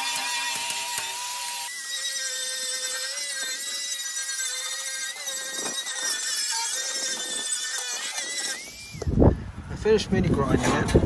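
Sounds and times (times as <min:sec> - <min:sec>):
angle grinder grinding metal: 0:00.0 - 0:09.2.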